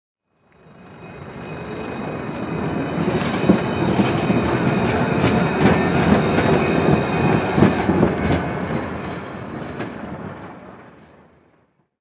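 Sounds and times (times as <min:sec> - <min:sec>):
train wheels rumbling on rails: 0:00.5 - 0:11.8.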